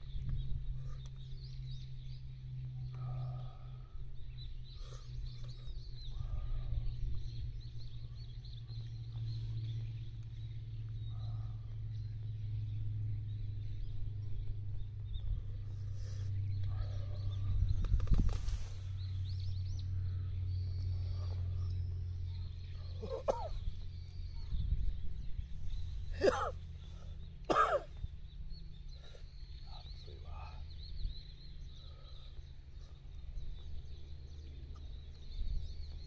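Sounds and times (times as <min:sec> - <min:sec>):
birds chirping: 0:00.0 - 0:36.0
steady low rumble: 0:00.0 - 0:36.0.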